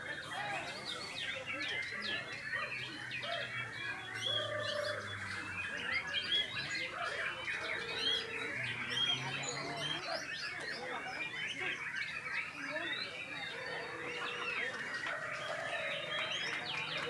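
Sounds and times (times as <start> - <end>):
birds singing in chorus: 0.0 - 17.0.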